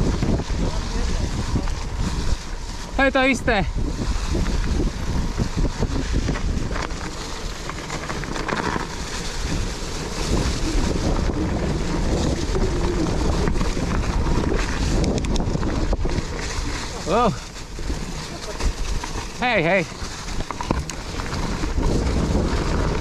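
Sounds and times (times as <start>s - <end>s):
bike rattles and knocks: 0.0s - 23.0s
bike rumbling on dirt trail: 0.0s - 23.0s
wind buffeting microphone: 0.0s - 23.0s.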